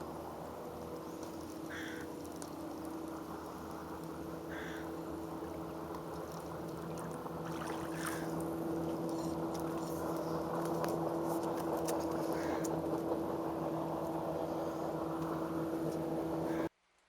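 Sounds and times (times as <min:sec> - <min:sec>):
engine running: 0:00.0 - 0:16.7.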